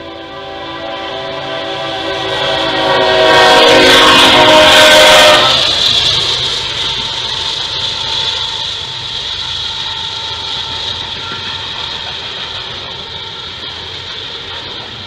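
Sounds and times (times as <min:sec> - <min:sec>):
diesel locomotive engine rumble: 0:00.0 - 0:15.0
freight cars rolling: 0:01.5 - 0:15.0.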